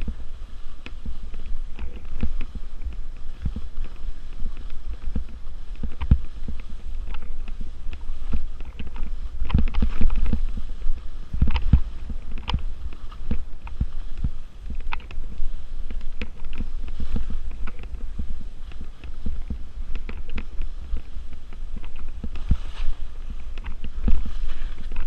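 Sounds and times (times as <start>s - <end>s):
low rumble: 0.0s - 25.0s
skis scraping on slushy snow: 0.0s - 25.0s.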